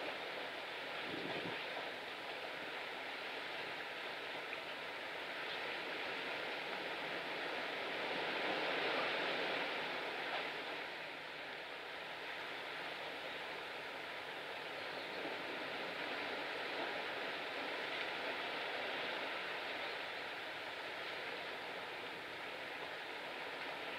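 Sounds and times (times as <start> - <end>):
choppy sea water rushing: 0.0 - 23.9.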